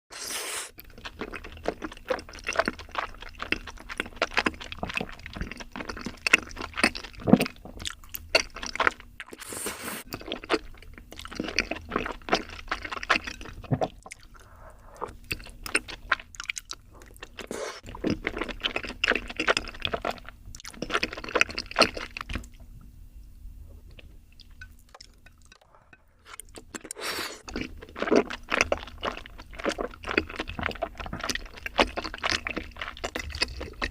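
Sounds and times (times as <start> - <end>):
crunchy wet chewing: 0.2 - 22.6, 23.9 - 33.9.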